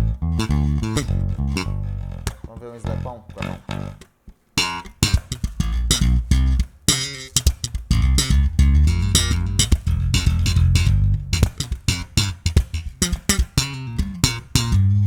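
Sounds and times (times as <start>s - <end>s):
slap electric bass: 0.0s - 15.0s.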